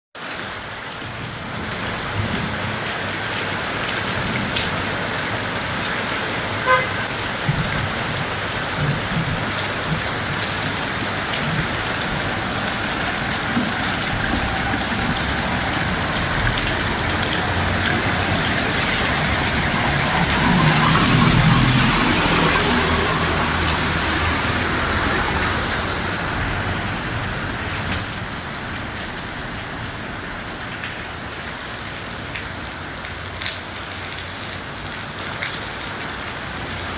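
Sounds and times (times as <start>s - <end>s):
heavy rain falling: 0.2s - 36.9s.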